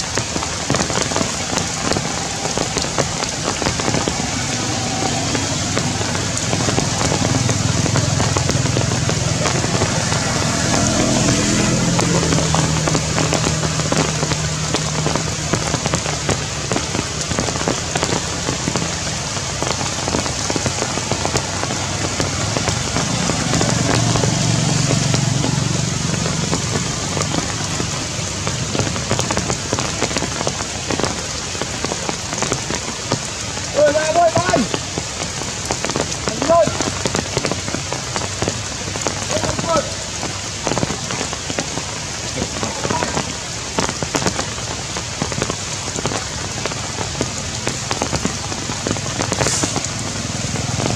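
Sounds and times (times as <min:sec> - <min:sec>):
heavy rain on leaves: 0:00.0 - 0:50.9.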